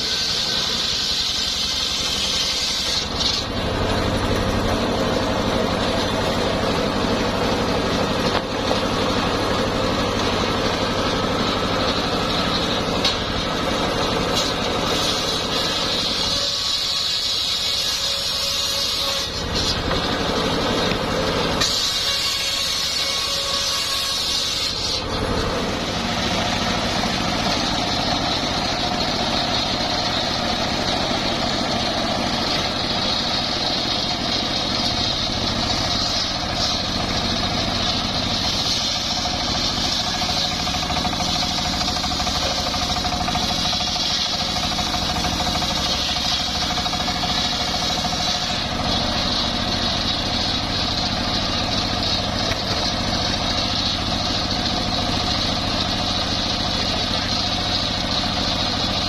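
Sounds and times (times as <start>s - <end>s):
sawmill motor hum: 0.0s - 59.0s.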